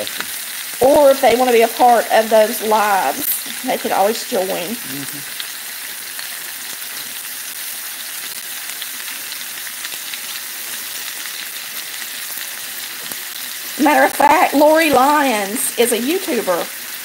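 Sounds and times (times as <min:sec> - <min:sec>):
meatballs sizzling in hot oil: 0:00.0 - 0:17.0.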